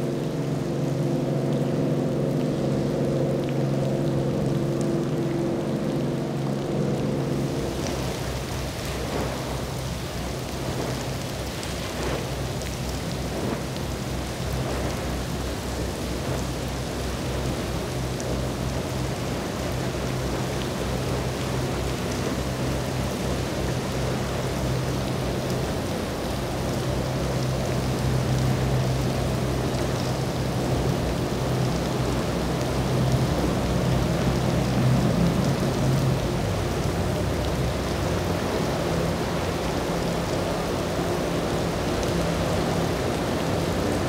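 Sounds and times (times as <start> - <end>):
boat engine droning: 0.0 - 44.0
heavy rain: 0.0 - 44.0
wind: 0.0 - 44.0.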